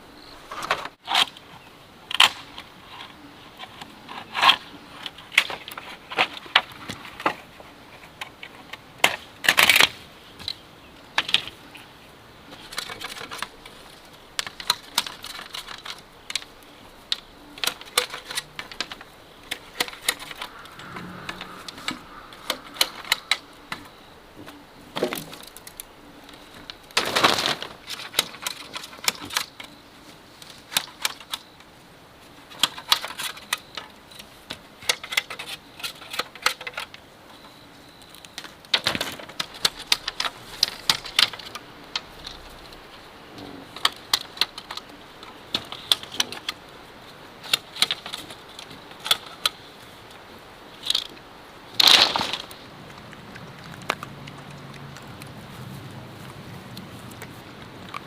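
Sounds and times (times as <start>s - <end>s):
bamboo clicking and knocking: 0.5s - 10.6s, 12.5s - 31.7s, 32.4s - 46.7s, 47.4s - 55.6s.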